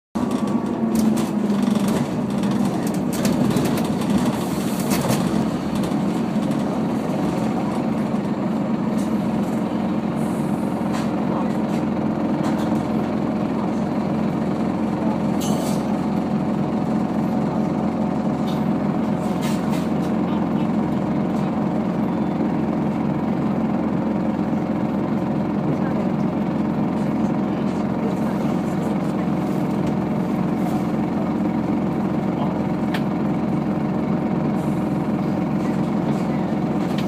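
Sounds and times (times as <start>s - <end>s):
bus diesel engine idling: 0.2s - 37.0s.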